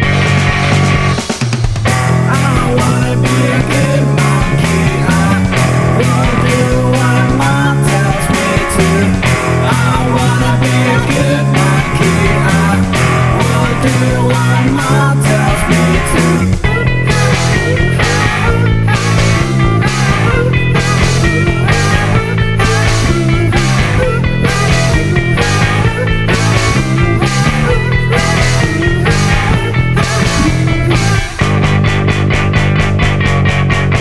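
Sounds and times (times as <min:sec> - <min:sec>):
out-of-tune rock song: 0:00.0 - 0:34.0.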